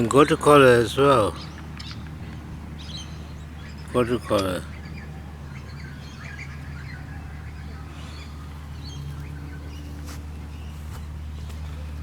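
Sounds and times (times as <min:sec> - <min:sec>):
birds chirping faintly: 0:00.0 - 0:12.0
steady low hum: 0:00.0 - 0:12.0.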